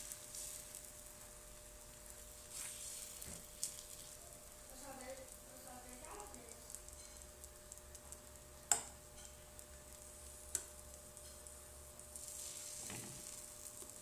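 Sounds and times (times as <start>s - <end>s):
batter sizzling in frying pan: 0.0s - 14.0s.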